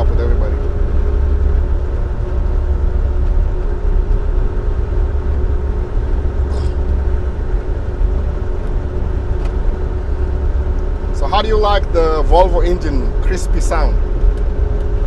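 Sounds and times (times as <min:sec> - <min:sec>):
diesel truck engine running: 0:00.0 - 0:15.0
low road rumble: 0:00.0 - 0:15.0.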